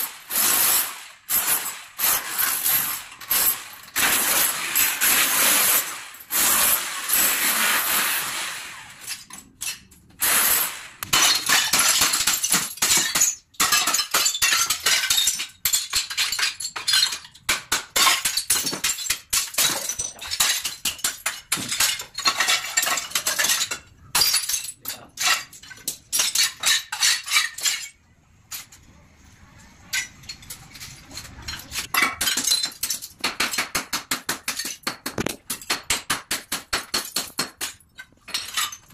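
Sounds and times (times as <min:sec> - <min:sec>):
hammer smashing porcelain: 0:00.0 - 0:08.3, 0:09.1 - 0:27.9, 0:31.8 - 0:38.9.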